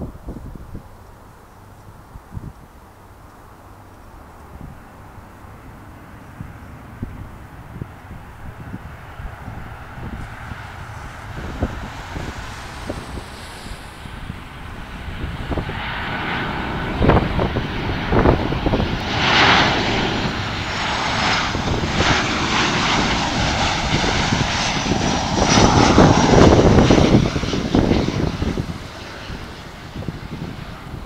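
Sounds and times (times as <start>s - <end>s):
faint high engine whine: 0.0s - 31.0s
jet plane passing overhead: 2.6s - 31.0s.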